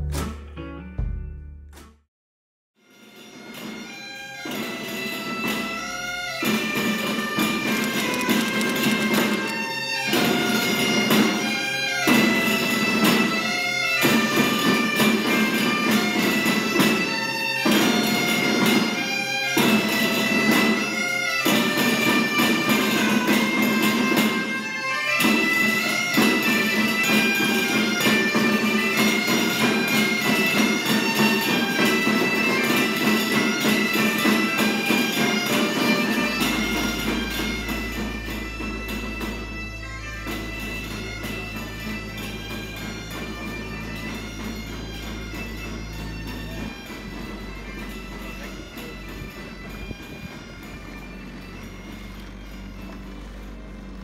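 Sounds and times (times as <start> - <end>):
bagpipe music: 2.8 - 54.0.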